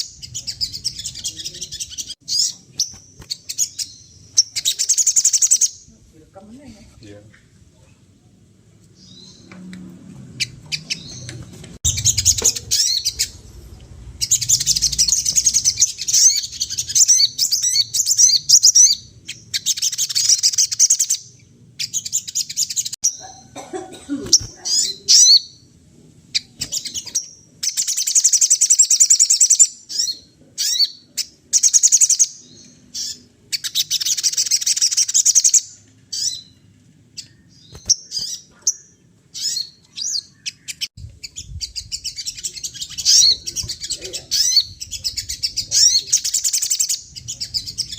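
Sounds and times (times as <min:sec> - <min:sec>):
songbird chattering: 0:00.0 - 0:06.1, 0:10.4 - 0:23.6, 0:26.3 - 0:36.6, 0:37.2 - 0:47.9.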